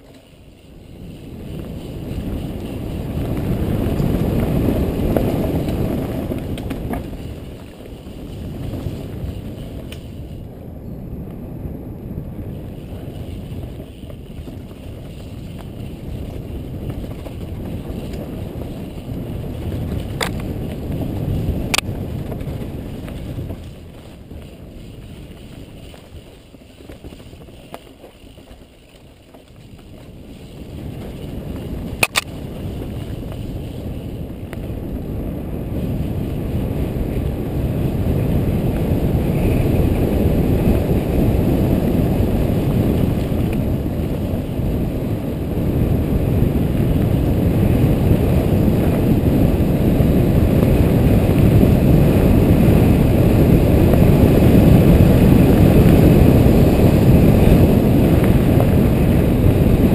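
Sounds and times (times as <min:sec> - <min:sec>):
tyre rumble on dirt trail: 0:00.0 - 0:59.9
wind buffeting microphone: 0:00.0 - 0:59.9.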